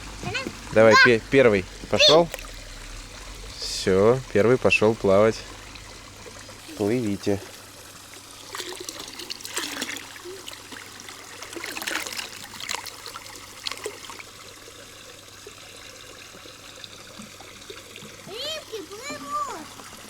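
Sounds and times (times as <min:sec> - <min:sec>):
pond water trickling: 0:00.0 - 0:20.0
fish splashing in water: 0:01.7 - 0:03.8, 0:04.7 - 0:20.0.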